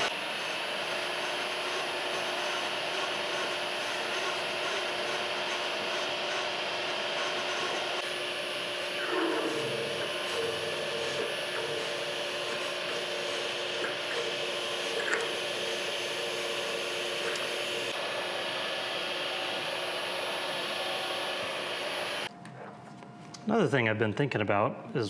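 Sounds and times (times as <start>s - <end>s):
drill cutting through metal: 0.0s - 22.3s
milling machine spindle running: 0.0s - 22.3s.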